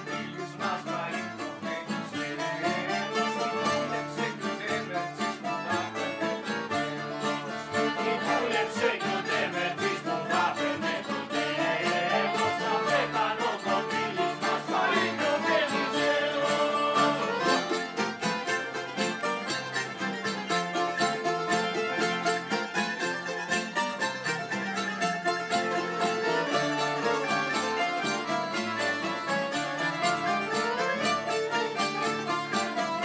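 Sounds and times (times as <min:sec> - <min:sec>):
accordion: 0:00.0 - 0:33.0
bouzoukis picking melody: 0:00.0 - 0:33.0
strummed guitars: 0:00.0 - 0:33.0.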